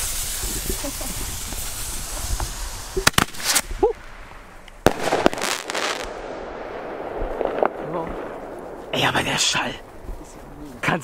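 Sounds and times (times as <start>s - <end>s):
firework fizzing hiss: 0.0s - 10.0s
firework sharp bangs: 0.0s - 10.2s.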